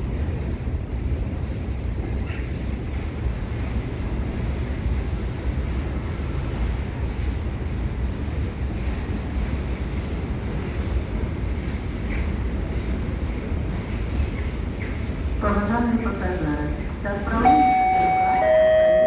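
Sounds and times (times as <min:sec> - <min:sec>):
diesel train engine rumbling: 0:00.0 - 0:19.0.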